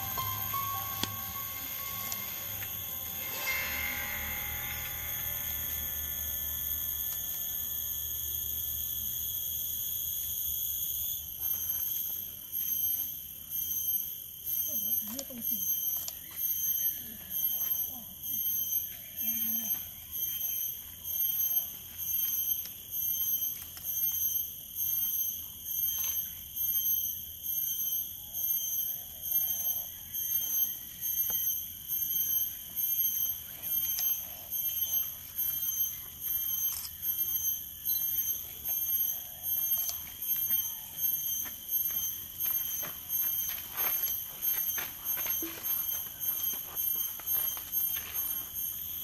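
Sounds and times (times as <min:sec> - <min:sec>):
high-pitched ringing insect call: 0:00.0 - 0:49.0.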